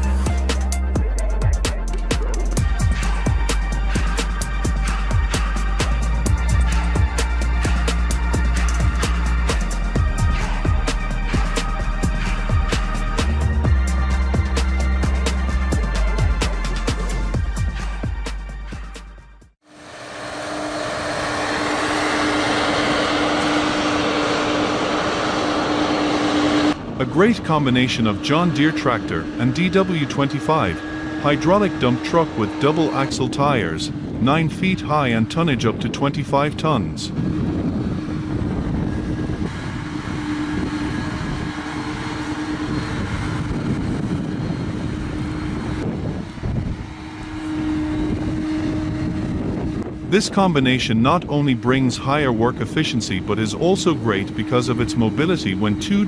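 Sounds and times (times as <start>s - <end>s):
vehicle engine droning: 0.0s - 18.9s, 19.6s - 56.0s
steady hum: 1.4s - 18.2s, 19.7s - 56.0s.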